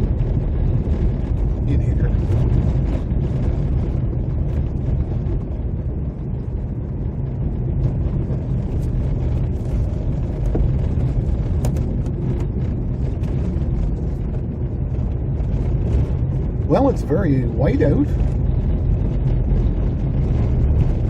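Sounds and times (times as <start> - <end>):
car interior road rumble: 0.0 - 21.0.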